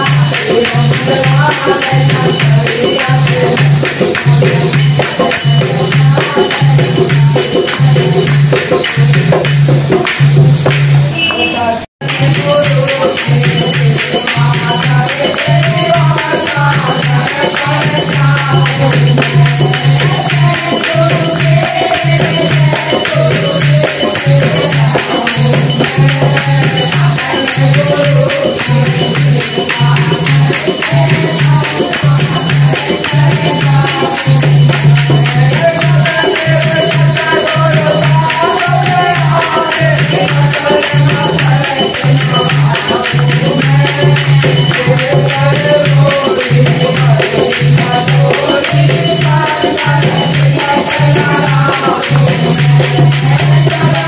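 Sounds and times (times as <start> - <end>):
man singing: 0.0 - 10.2, 11.0 - 54.0
hand clapping: 0.0 - 11.4, 12.0 - 54.0
hand drum beating: 0.0 - 11.4, 12.0 - 54.0
jingling hand percussion: 0.0 - 54.0.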